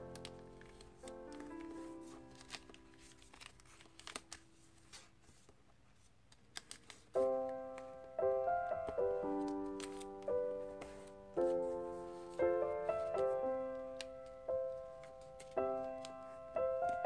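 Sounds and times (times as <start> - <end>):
keyboard background music: 0.0 - 4.2, 7.2 - 17.0
paper crinkling: 0.0 - 17.0.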